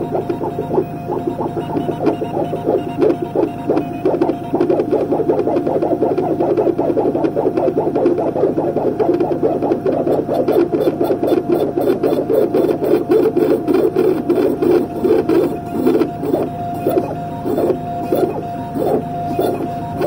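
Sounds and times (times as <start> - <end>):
milling machine grinding: 0.0 - 20.0.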